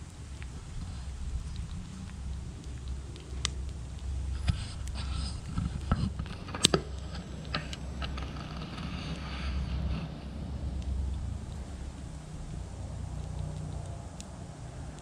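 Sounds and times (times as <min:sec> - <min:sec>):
stick fire crackling: 0:00.0 - 0:15.0
wind rumble on microphone: 0:00.0 - 0:15.0.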